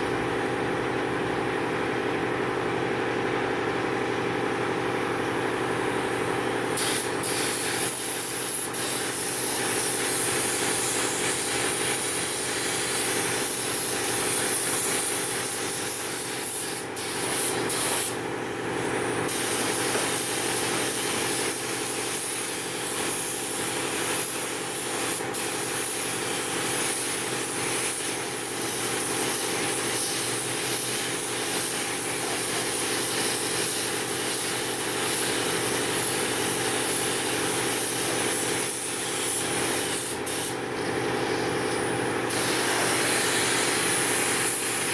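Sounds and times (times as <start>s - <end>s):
paint spray gun hissing: 6.7s - 44.9s.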